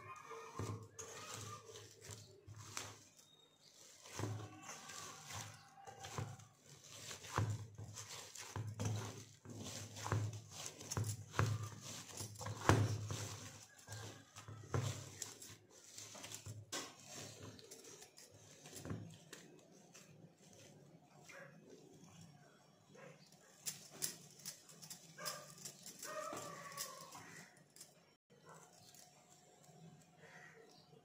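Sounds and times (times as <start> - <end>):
dough kneaded in a metal bowl: 0.0 - 31.0.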